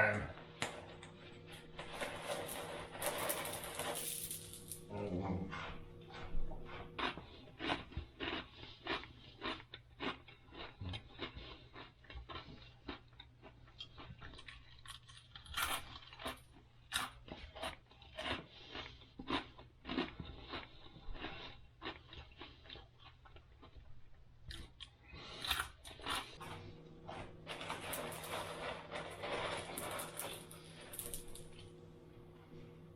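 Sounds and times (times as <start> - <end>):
person chewing crunchy cereal: 0.4 - 32.0.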